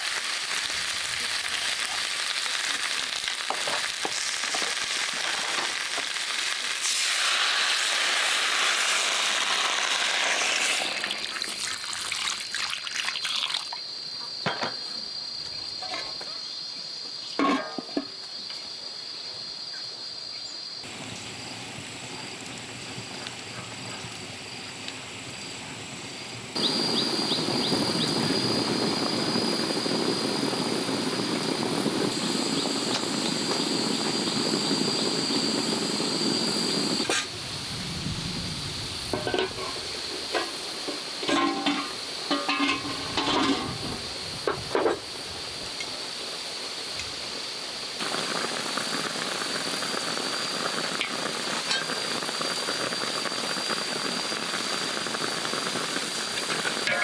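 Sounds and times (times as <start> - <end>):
food frying sizzle: 0.0 - 14.0, 20.8 - 44.2, 45.1 - 57.0.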